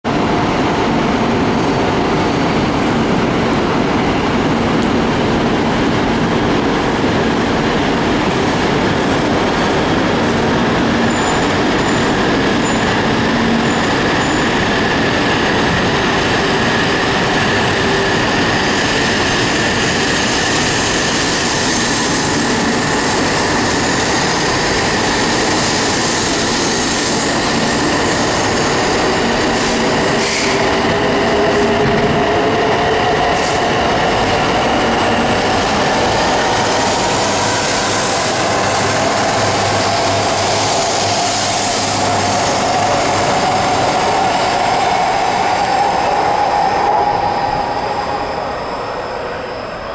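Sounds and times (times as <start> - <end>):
high-speed train accelerating: 0.0 - 49.9.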